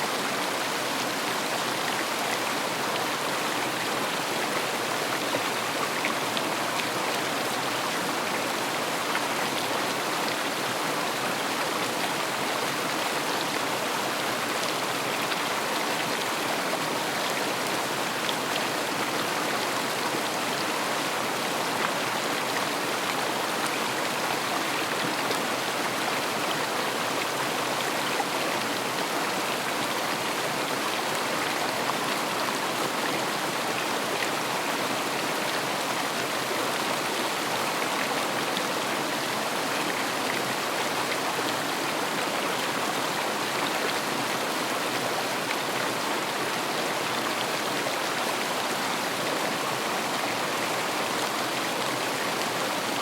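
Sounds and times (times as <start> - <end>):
river water flowing over stones: 0.0 - 53.0.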